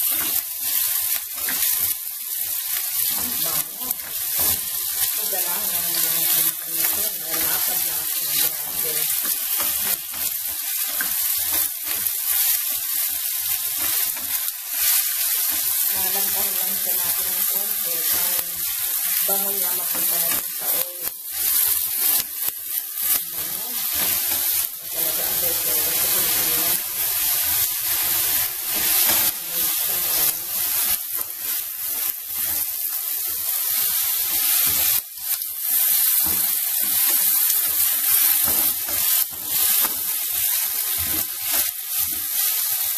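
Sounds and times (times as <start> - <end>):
peppers sizzling in oil: 0.0 - 42.9.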